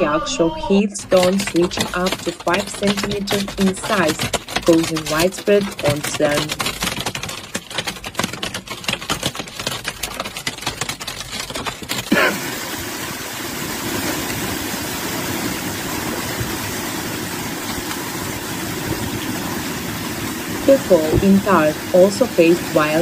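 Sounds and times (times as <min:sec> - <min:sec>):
hail pelting a car roof: 0:01.0 - 0:23.0.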